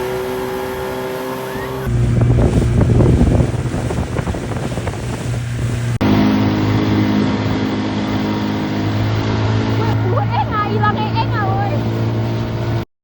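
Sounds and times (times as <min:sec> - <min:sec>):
water splashing: 0:00.0 - 0:12.8
watercraft engine running: 0:00.0 - 0:12.9
wind buffeting microphone: 0:01.8 - 0:12.8.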